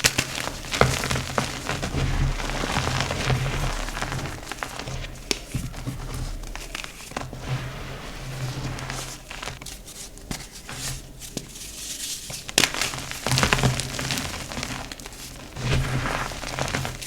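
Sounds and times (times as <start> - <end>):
chalk crackling and crunching: 0.0 - 17.0.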